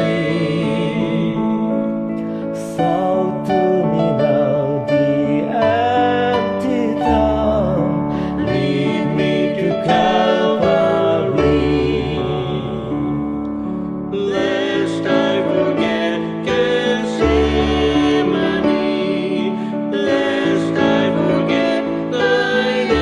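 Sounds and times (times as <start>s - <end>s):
people singing a hymn: 0.0s - 23.0s
recorded backing track: 0.0s - 23.0s.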